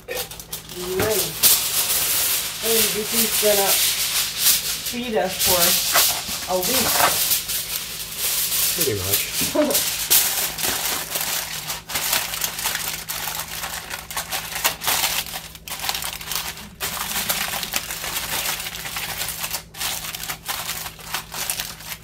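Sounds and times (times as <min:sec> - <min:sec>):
aluminium foil crinkling: 0:00.0 - 0:22.0.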